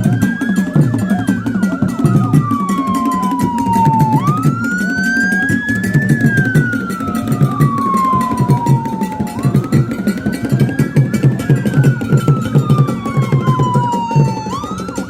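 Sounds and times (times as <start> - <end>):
background music with steady beat: 0.0 - 15.0
wailing siren: 0.0 - 15.0.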